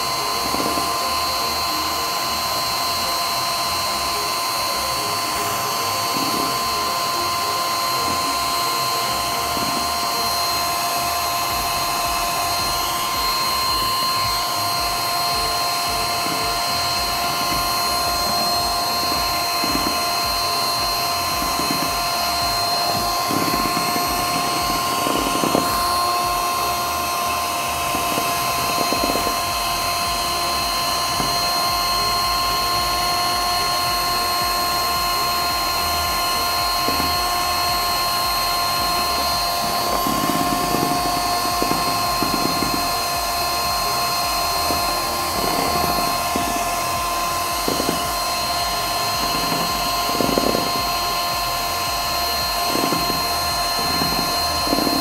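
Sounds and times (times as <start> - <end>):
electric hand mixer whining: 0.0 - 55.0.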